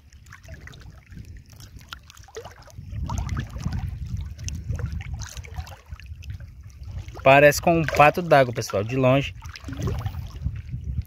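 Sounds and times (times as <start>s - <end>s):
water sloshing and splashing: 0.0s - 11.0s
wind rumble on microphone: 0.0s - 11.0s.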